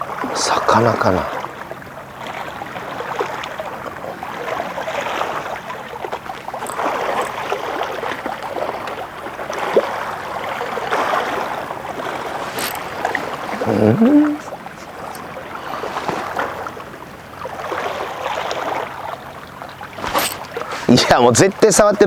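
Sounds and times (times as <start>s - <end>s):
sea water washing along shore: 0.0s - 22.0s.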